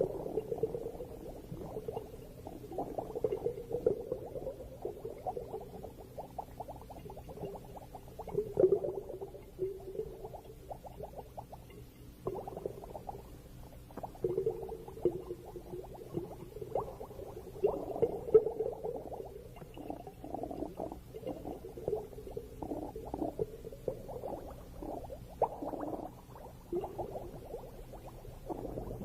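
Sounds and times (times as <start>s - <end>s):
underwater bubbling and gurgling: 0.0s - 29.0s.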